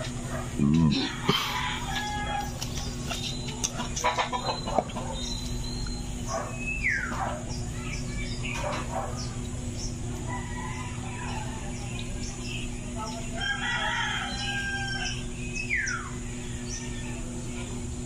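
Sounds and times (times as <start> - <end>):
chickens clucking: 0.0 - 18.0
steady low hum: 0.0 - 18.0.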